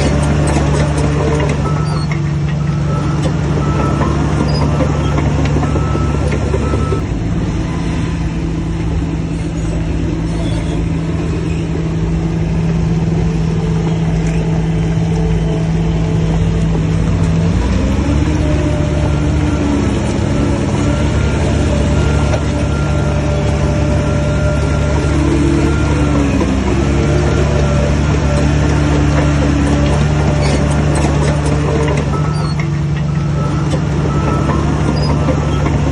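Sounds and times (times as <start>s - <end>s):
heavy diesel engine revving: 0.0s - 35.9s.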